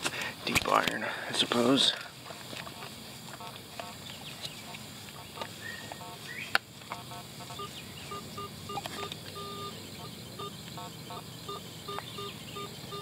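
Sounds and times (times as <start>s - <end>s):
metal detector beeping: 2.2s - 13.0s.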